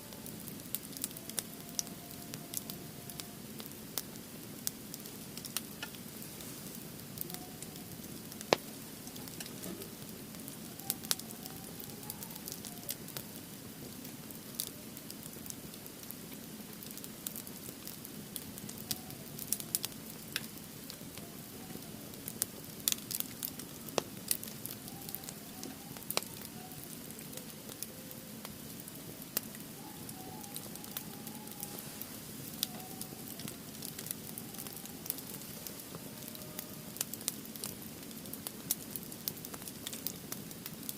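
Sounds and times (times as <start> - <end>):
fire crackling and popping: 0.0 - 40.9
wood fire burning: 0.0 - 40.9.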